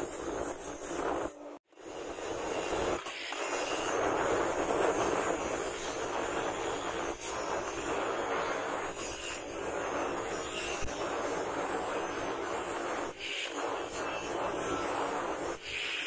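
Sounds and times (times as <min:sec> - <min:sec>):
angle grinder grinding steel: 0:02.0 - 0:16.0.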